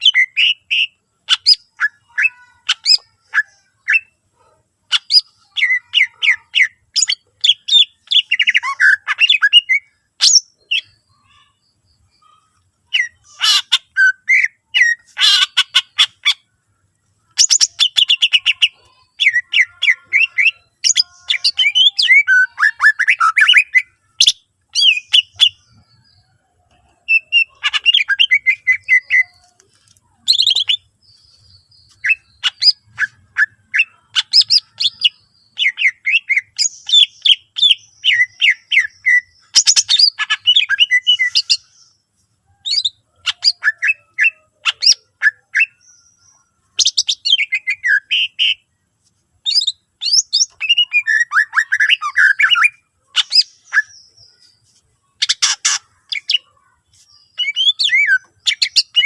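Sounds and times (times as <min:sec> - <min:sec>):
bird singing varied chirps: 0:00.0 - 0:59.0.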